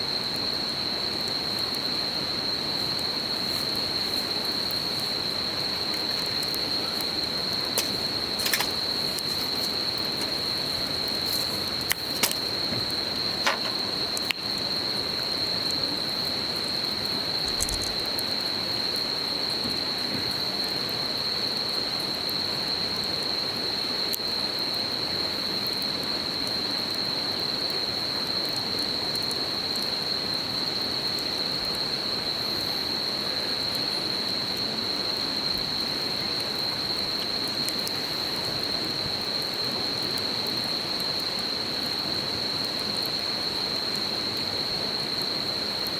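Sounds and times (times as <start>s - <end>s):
insects droning: 0.0s - 45.9s
campfire crackling and popping: 0.1s - 32.0s, 33.0s - 45.9s.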